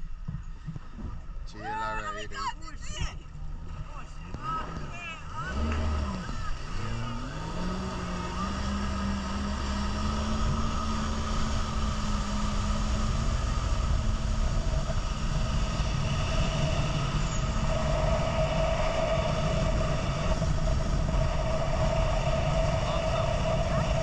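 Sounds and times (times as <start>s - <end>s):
wind: 0.0s - 24.0s
jet ski engine running: 3.2s - 24.0s
water rushing: 3.5s - 24.0s.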